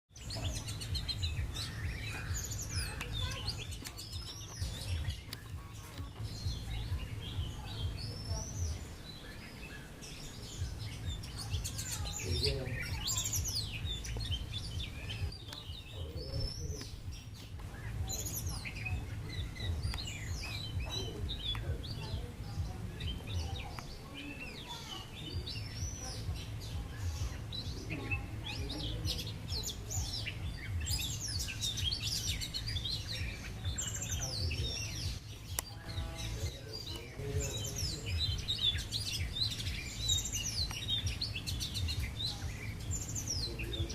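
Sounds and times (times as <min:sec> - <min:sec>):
small birds chirping: 0:00.1 - 0:43.9.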